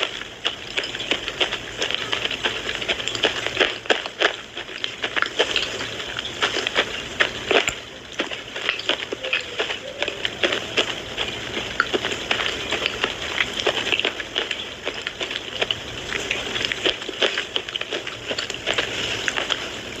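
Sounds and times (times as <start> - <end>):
person crunching pencil with teeth: 0.0 - 19.6.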